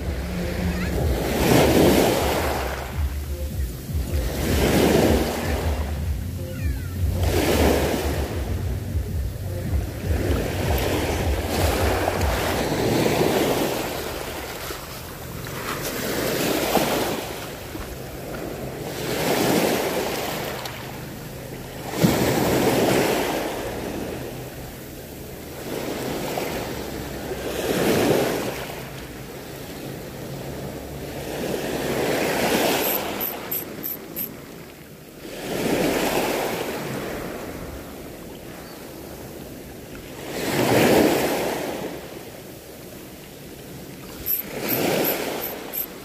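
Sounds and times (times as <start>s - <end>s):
waves breaking on a beach: 0.0s - 46.0s.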